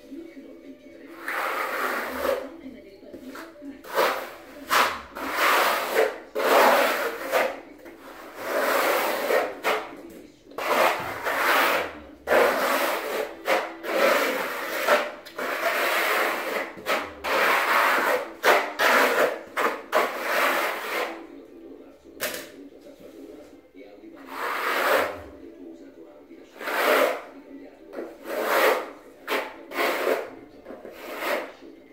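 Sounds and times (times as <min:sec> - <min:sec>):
steel trowel scraping floor: 0:01.0 - 0:21.3, 0:24.2 - 0:25.4, 0:26.4 - 0:31.7.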